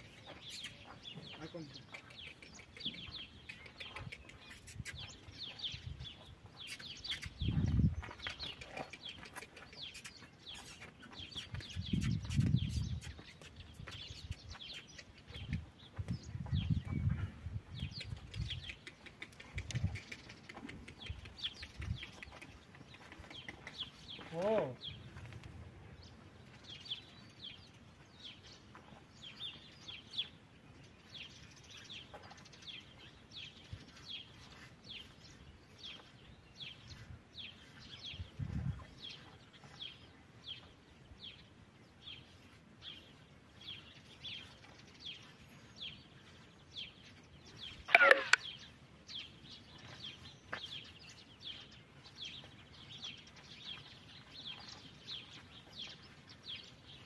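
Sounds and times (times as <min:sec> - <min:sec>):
small bird chirping: 0:00.0 - 0:25.4, 0:26.0 - 0:57.0
faint outdoor noise: 0:00.0 - 0:57.0.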